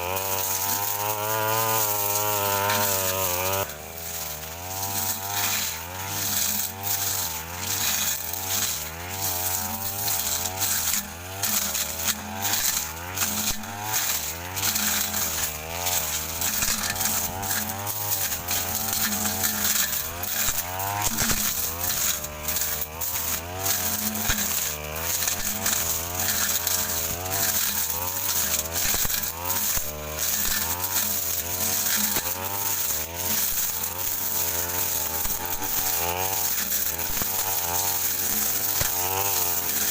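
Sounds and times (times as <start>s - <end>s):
blade ticking against stems: 0.0s - 39.9s
brush cutter engine running: 0.0s - 39.9s.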